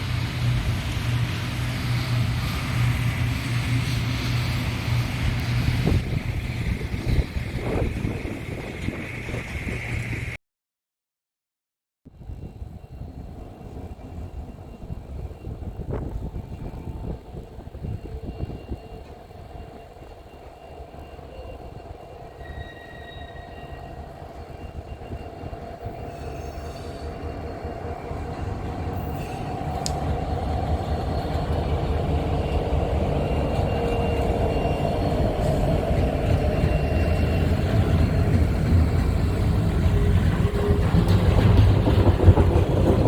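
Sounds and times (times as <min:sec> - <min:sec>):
train rumble: 0:00.0 - 0:10.4, 0:12.1 - 0:43.0.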